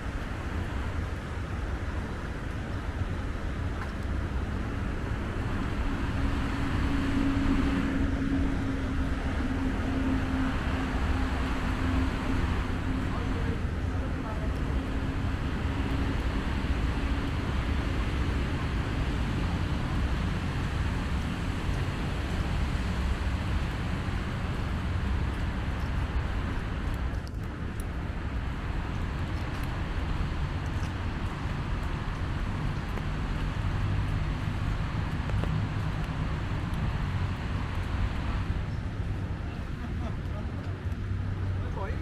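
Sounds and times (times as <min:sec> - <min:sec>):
low traffic rumble and hiss: 0:00.0 - 0:42.0
cars passing: 0:02.9 - 0:42.0.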